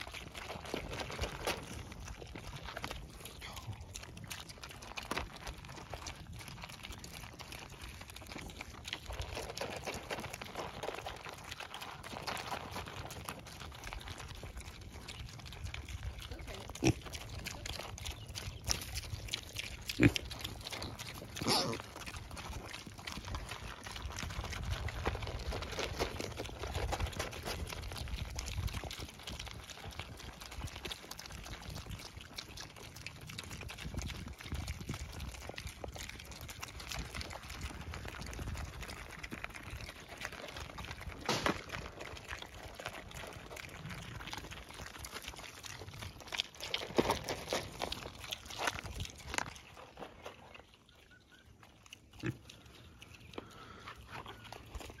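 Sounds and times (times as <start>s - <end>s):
piglets chewing and crunching feed: 0.0s - 55.0s.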